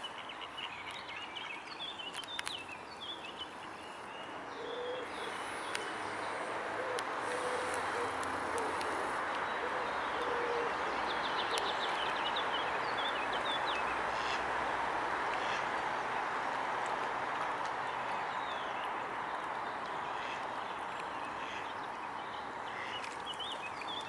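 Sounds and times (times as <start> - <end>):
rushing outdoor noise: 0.0 - 24.0.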